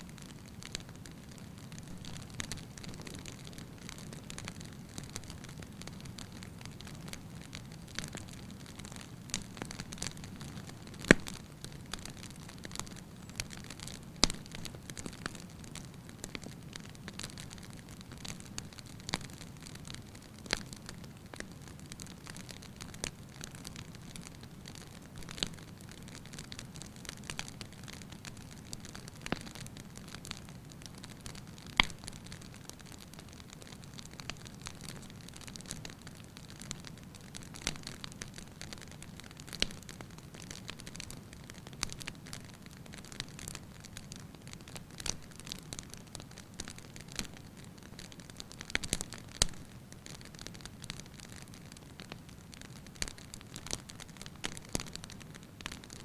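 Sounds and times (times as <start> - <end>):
fire popping and snapping: 0.0 - 56.0
wood fire crackling: 0.0 - 56.0.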